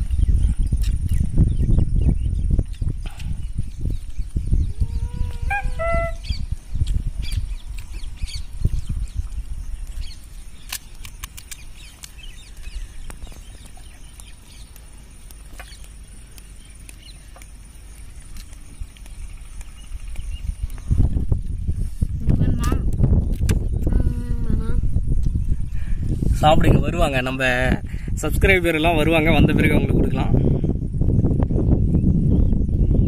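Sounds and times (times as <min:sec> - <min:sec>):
wind rumble on microphone: 0:00.0 - 0:33.0.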